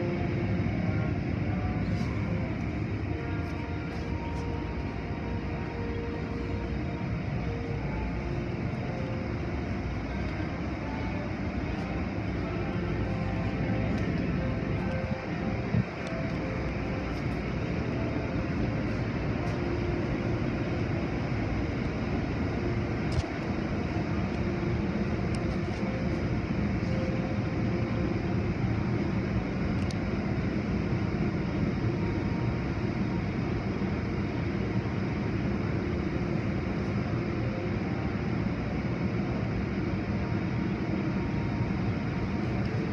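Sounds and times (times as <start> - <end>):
machinery hum: 0.0 - 42.9.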